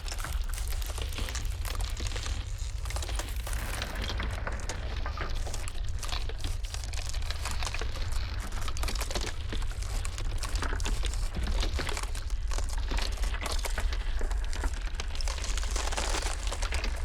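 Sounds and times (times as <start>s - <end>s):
ice cracking and snapping: 0.0s - 17.0s
low rumble of blizzard wind: 0.0s - 17.0s.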